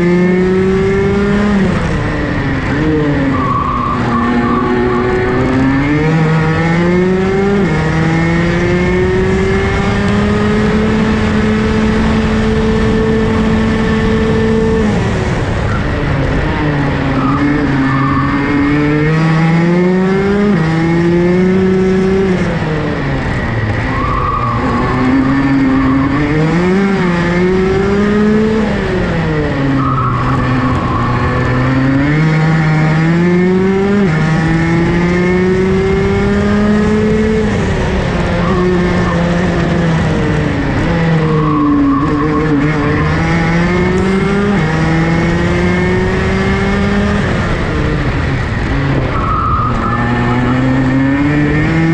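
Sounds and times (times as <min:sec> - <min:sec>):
kart engine revving: 0:00.0 - 0:51.9.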